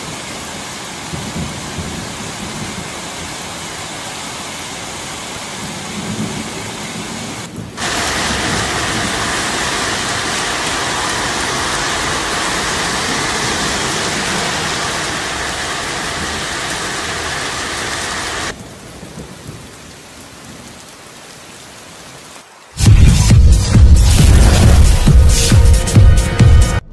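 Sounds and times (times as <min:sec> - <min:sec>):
heavy rain pouring: 0:00.0 - 0:26.4.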